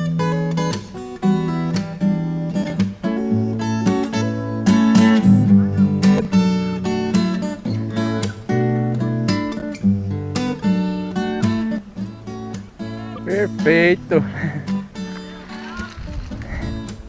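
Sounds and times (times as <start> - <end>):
strummed acoustic guitar music: 0.0 - 17.0.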